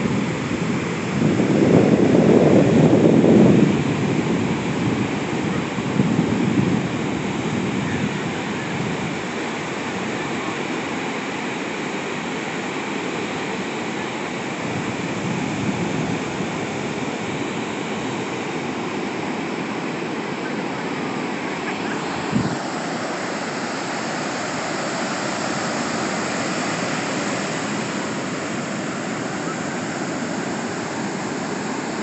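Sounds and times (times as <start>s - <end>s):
ocean waves washing onto beach: 0.0s - 32.0s.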